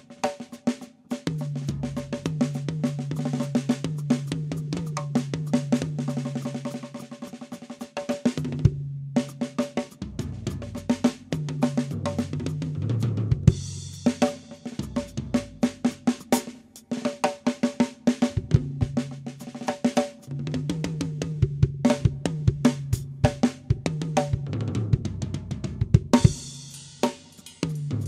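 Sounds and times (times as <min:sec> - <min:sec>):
drum kit played fast: 0:00.0 - 0:28.0.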